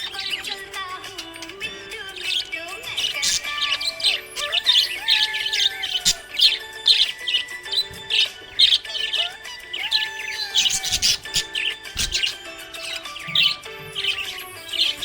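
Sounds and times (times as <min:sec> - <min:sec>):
budgerigars chirping rapidly: 0:00.0 - 0:15.0
music playing: 0:00.0 - 0:15.0.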